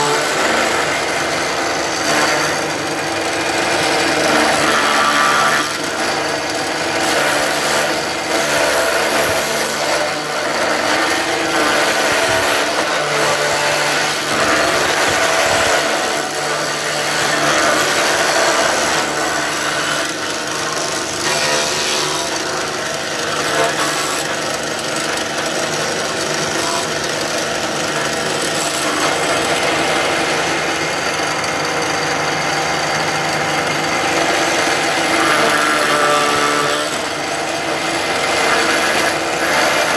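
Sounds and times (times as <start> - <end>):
router motor running: 0.0 - 39.9
router shaving wood: 0.0 - 39.9.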